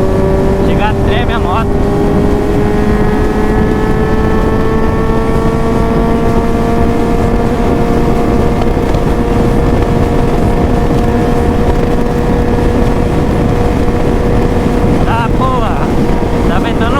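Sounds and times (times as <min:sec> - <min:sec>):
motorcycle engine accelerating: 0:00.0 - 0:16.9
wind noise on microphone: 0:00.0 - 0:16.9.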